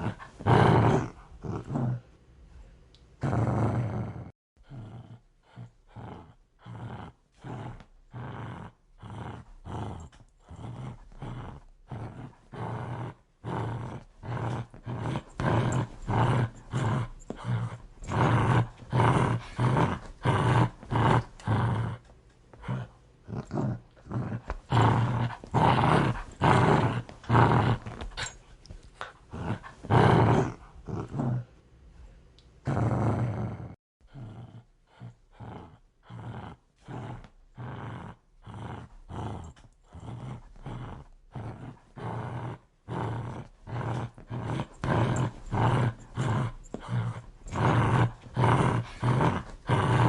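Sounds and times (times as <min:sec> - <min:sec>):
dog growling: 0:00.0 - 0:02.1, 0:03.2 - 0:31.5, 0:32.6 - 0:50.0.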